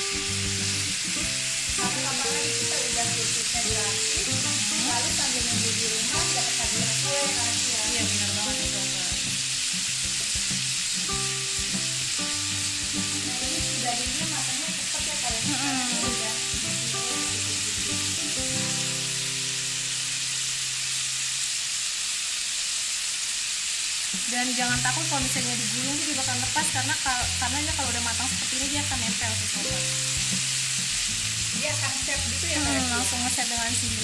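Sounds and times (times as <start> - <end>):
background music of held notes: 0.0 - 20.0, 26.4 - 34.0
meat sizzling in a hot pan: 0.0 - 34.0.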